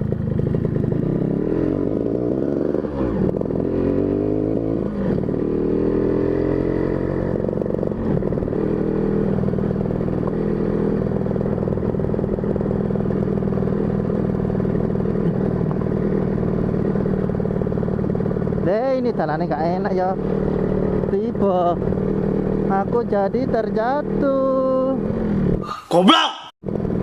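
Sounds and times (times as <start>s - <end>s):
motorcycle engine running: 0.0s - 25.6s, 26.6s - 27.0s.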